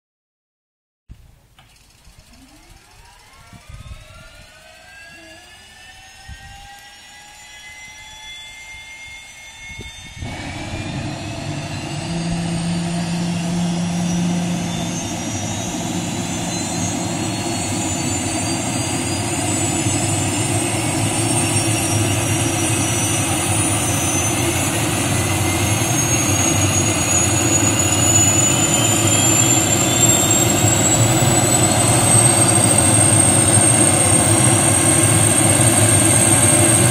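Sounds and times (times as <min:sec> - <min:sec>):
helicopter rotor turning: 0:01.7 - 0:36.9
turbine whine climbing in pitch: 0:02.0 - 0:36.9
engine rushing noise: 0:02.2 - 0:36.9.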